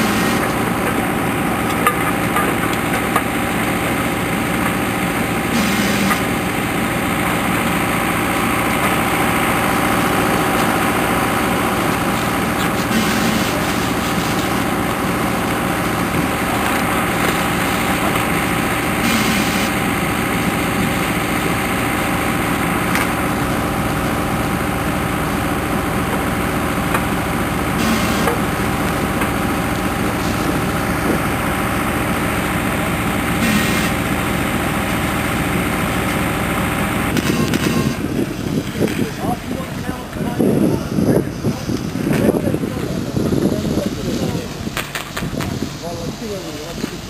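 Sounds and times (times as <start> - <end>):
small engine running: 0.0 - 47.0.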